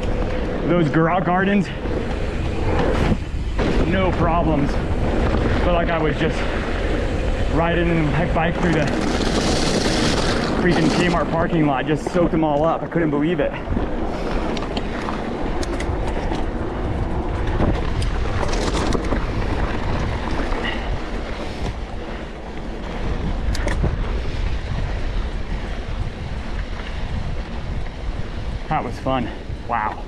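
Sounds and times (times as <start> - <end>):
bike rumbling and rattling: 0.0 - 30.0
wind buffeting microphone: 0.0 - 30.0.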